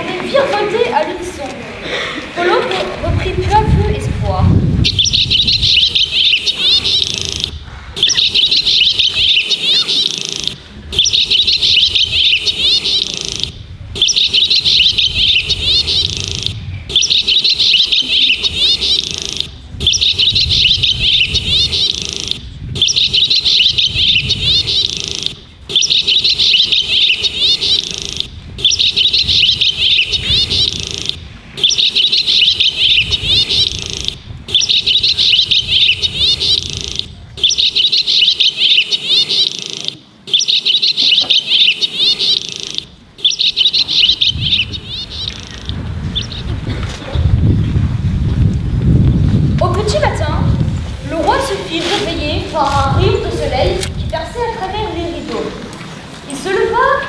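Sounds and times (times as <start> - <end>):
recorded bird twittering: 2.7 - 47.3, 49.0 - 55.4.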